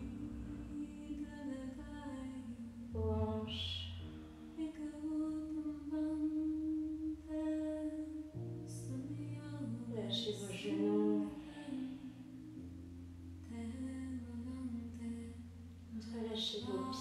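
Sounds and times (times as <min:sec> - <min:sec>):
wordless singing voice: 0:00.0 - 0:12.6, 0:13.4 - 0:17.0
slow calm music: 0:00.0 - 0:17.0.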